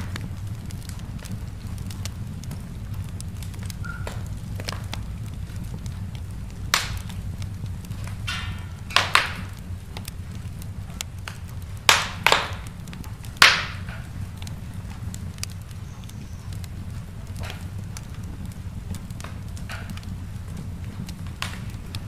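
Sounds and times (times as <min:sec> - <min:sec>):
low rumble of flames: 0:00.0 - 0:22.0
sharp pops of fire: 0:00.0 - 0:22.0
wood fire crackling: 0:00.0 - 0:22.0.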